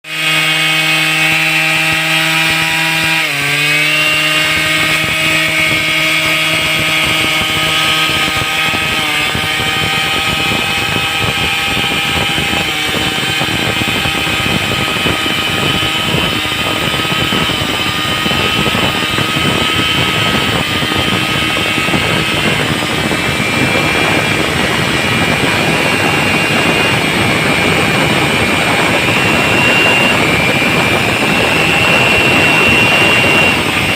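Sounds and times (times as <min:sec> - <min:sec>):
chainsaw engine running at high revs: 0:00.0 - 0:33.9.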